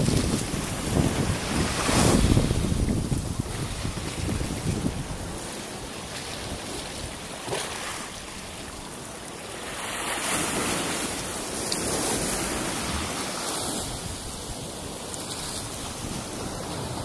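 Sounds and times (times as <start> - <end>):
surf breaking against pier: 0.0 - 8.9, 9.5 - 17.0
wind buffeting microphone: 0.0 - 8.9, 10.0 - 17.0.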